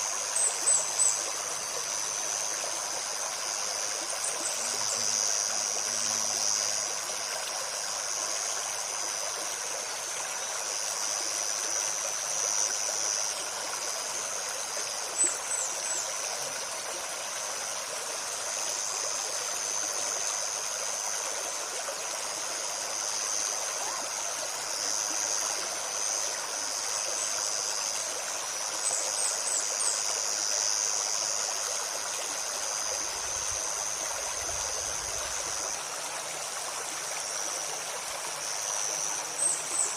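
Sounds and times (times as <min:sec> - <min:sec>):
insect drone: 0:00.0 - 0:39.9
river babbling over stones: 0:00.0 - 0:39.9.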